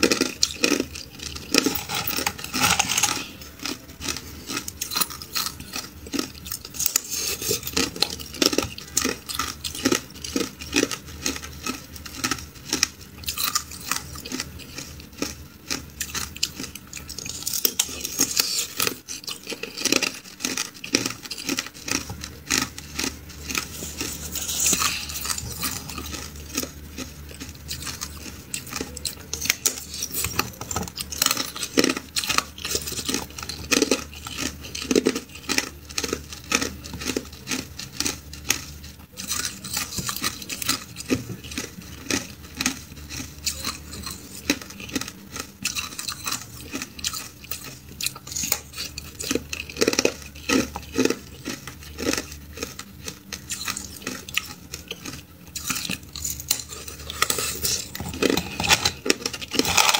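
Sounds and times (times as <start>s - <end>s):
teeth crunching ice: 0.0s - 59.9s.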